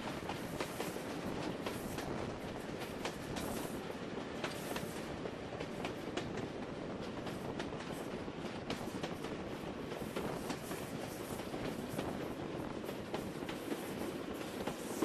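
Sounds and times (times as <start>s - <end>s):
train wheels rushing on track: 0.0s - 15.0s.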